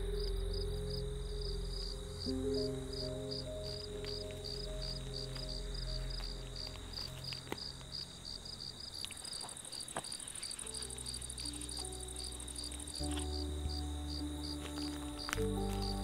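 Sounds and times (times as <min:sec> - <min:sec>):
crickets chirping: 0:00.0 - 0:16.0
high insect trill: 0:00.0 - 0:16.0
low background music tones: 0:00.0 - 0:16.0.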